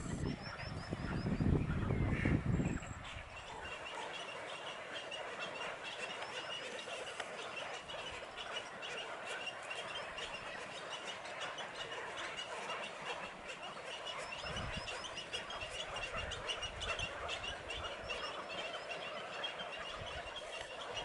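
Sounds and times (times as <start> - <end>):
waterbirds calling: 0.0 - 21.0.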